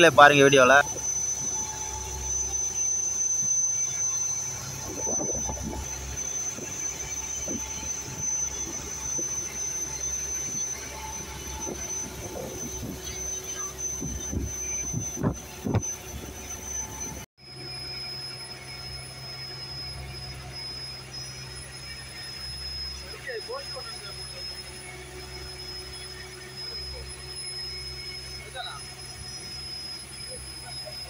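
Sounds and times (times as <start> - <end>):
low hum: 0.0 - 31.0
machinery high-pitched whine: 0.0 - 31.0.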